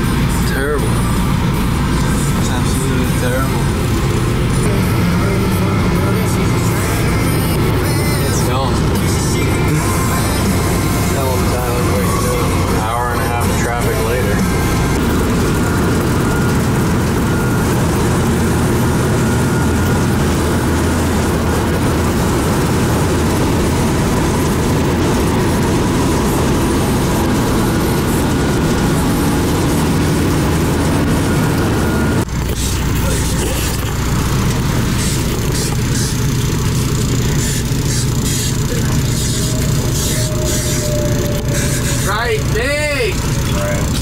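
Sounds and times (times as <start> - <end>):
engine and road noise in cab: 0.0 - 44.0.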